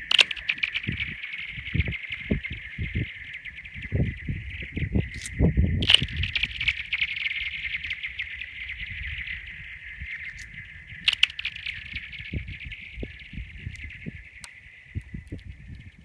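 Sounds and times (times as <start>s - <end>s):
ice ringing with chirping whistles: 0.0s - 16.0s.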